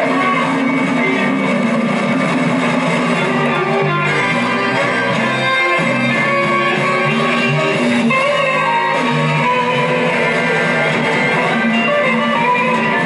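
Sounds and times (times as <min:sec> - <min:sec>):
electric guitar: 0:00.0 - 0:13.0
live band music: 0:00.0 - 0:13.0.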